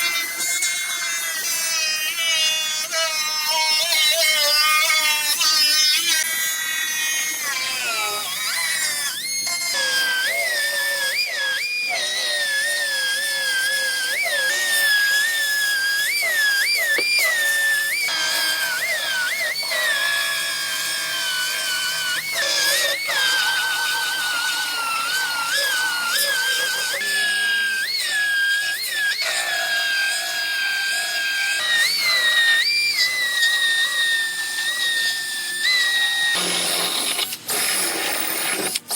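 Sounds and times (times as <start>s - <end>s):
power tool whining on metal: 0.0s - 38.9s.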